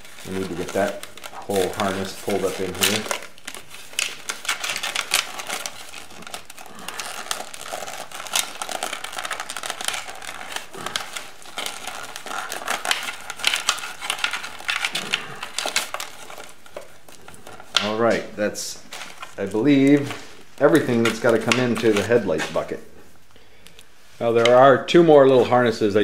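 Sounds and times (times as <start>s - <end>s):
wires rustling: 0.0s - 26.0s.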